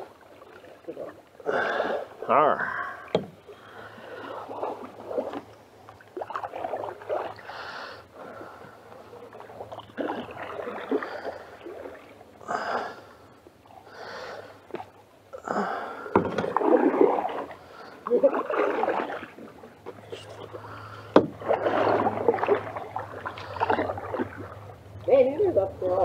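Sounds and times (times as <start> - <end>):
paddles splashing water: 0.0 - 26.0.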